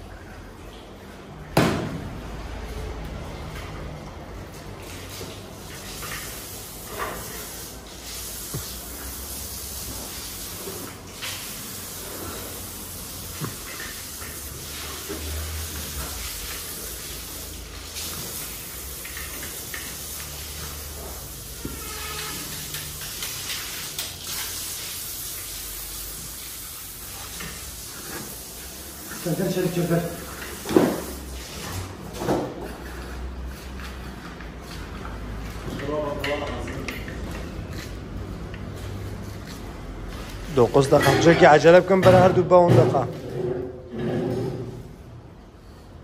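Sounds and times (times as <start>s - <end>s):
water hose spraying onto floor: 2.0s - 42.6s.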